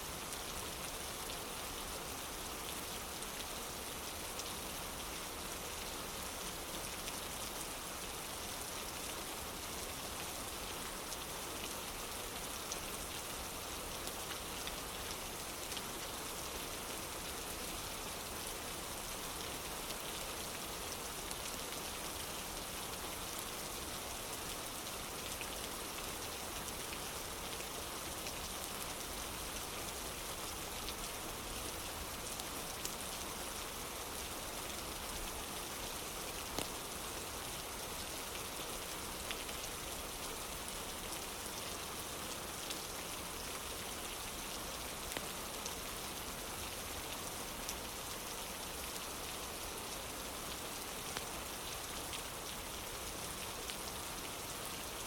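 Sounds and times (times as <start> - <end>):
rain on a wooden porch: 0.0 - 55.0.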